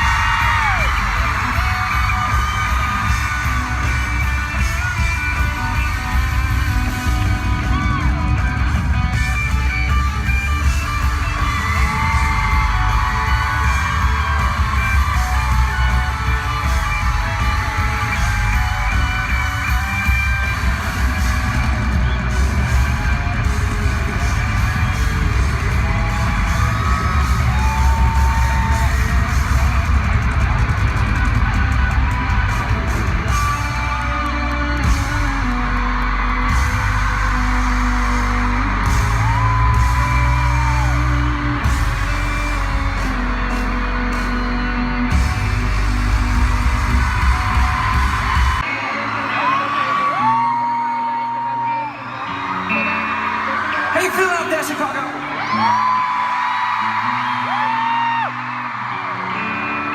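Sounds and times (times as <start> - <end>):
heavy bass: 0.0 - 48.7
crowd screaming and cheering: 0.0 - 59.9
pop-rock band playing live: 0.0 - 59.9.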